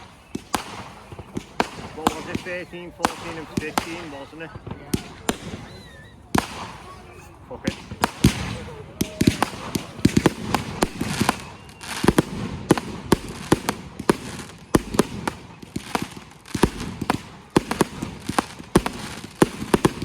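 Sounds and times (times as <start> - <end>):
firework bangs and crackles: 0.0 - 20.0.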